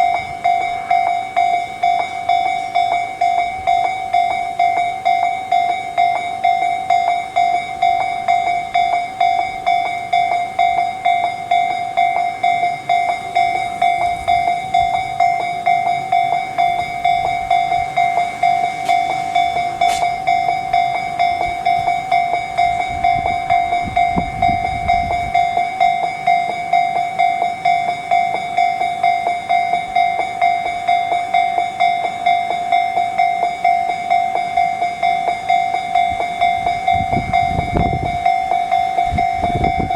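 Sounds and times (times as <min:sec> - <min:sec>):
level crossing electronic bell: 0:00.0 - 0:39.9.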